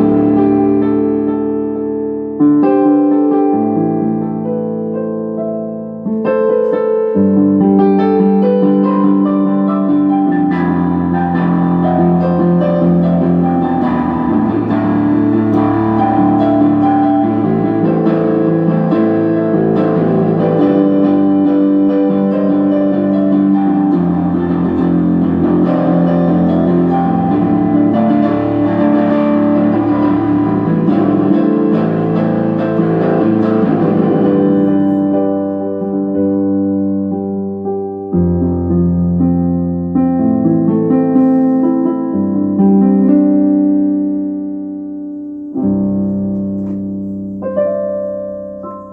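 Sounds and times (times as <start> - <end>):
electronic keyboard playing: 0.0 - 48.9.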